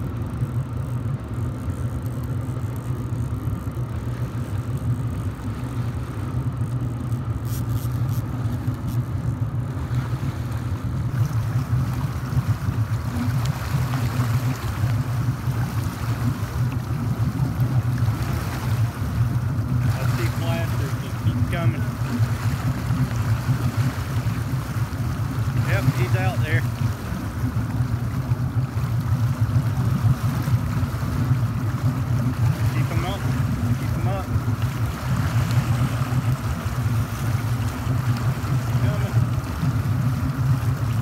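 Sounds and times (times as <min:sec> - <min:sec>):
boat engine droning: 0:00.0 - 0:41.0
water splashing beside hull: 0:00.0 - 0:41.0.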